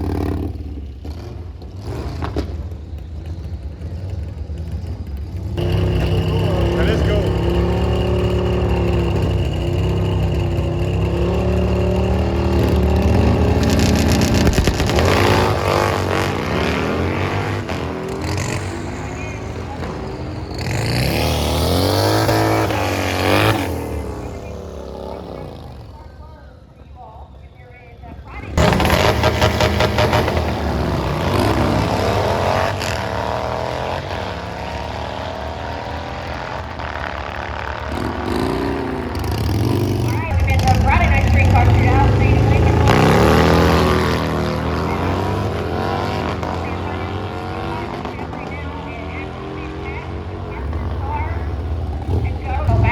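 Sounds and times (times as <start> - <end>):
drag racing engines revving: 0.0 - 52.9.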